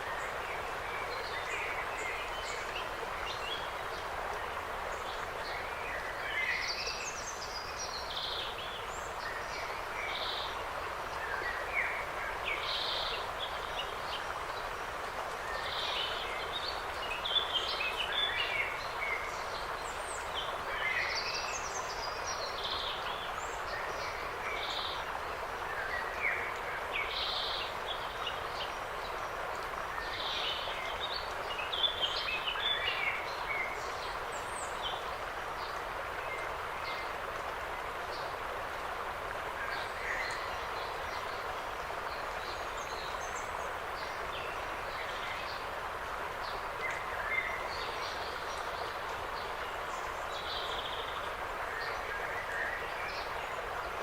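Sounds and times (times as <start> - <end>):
forest ambience hiss: 0.0 - 54.0
songbirds chirping: 0.0 - 54.0.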